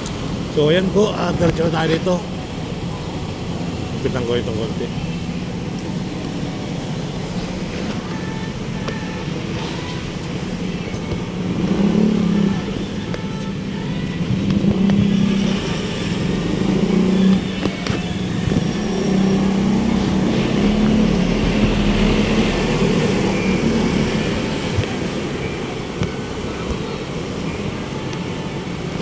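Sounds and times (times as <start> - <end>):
vehicles passing close by: 0.0 - 29.0.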